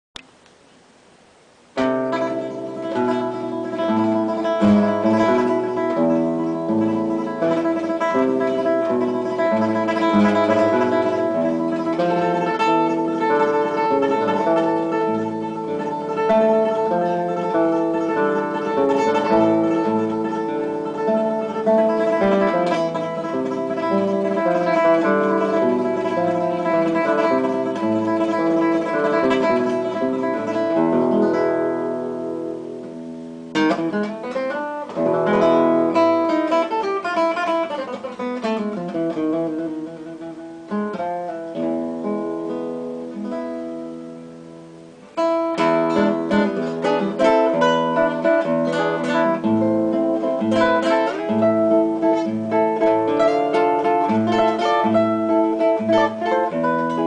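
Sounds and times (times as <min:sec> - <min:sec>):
plucked acoustic guitar: 0:01.7 - 0:57.0.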